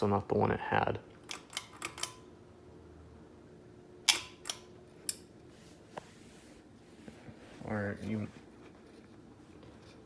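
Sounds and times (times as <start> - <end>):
ceiling fan humming: 0.0 - 10.0.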